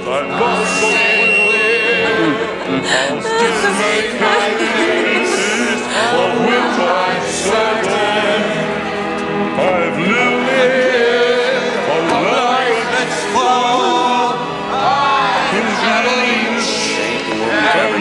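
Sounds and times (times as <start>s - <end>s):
backing music: 0.0s - 18.0s
group singing into microphones: 0.0s - 18.0s.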